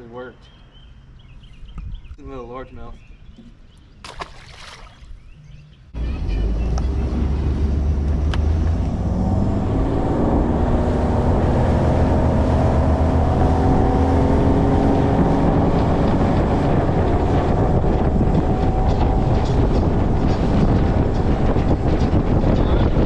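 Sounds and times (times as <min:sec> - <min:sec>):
wind buffeting microphone: 0:00.8 - 0:23.0.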